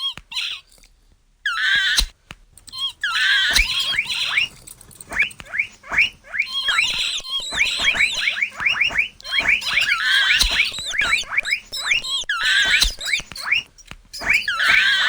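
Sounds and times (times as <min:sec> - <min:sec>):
mouse squeaking: 0:00.0 - 0:00.7, 0:01.5 - 0:15.0
scratchy chattering: 0:01.7 - 0:15.0.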